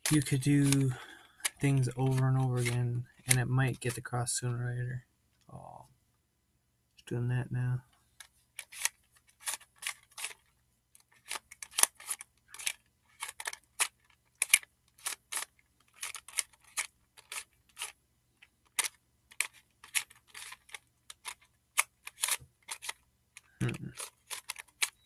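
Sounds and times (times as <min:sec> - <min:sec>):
plastic puzzle cube clicking: 0:00.0 - 0:03.9, 0:08.2 - 0:25.0.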